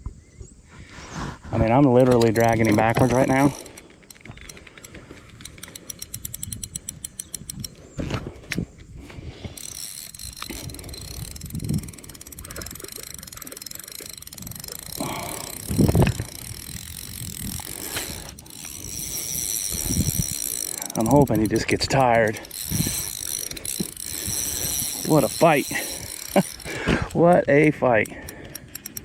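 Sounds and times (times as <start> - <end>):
fishing reel ratcheting: 1.6 - 7.9, 9.2 - 29.0.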